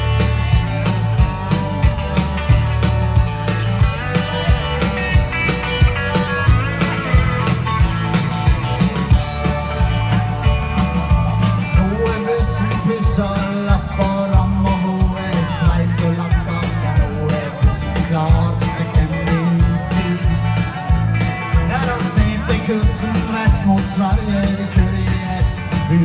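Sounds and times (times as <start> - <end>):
country-rock band playing: 0.0 - 26.0.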